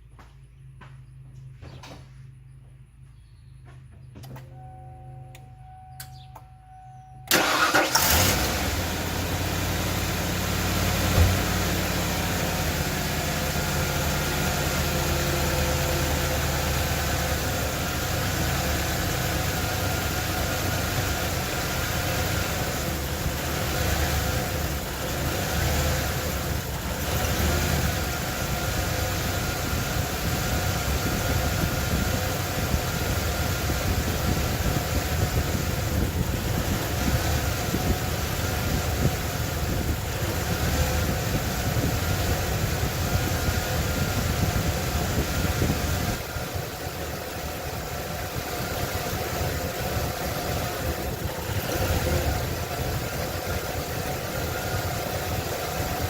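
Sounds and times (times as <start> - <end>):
engine starting and idling roughly: 7.3 - 56.0.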